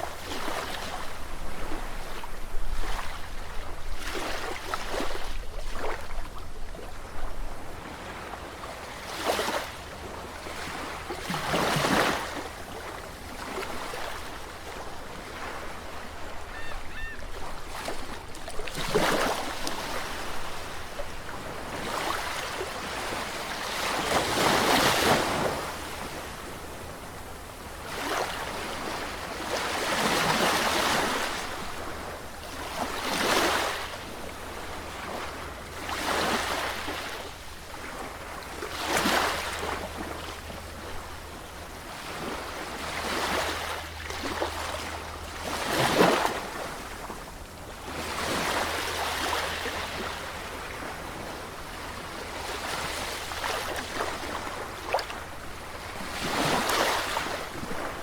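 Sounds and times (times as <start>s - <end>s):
waves breaking and washing in: 0.0s - 58.0s.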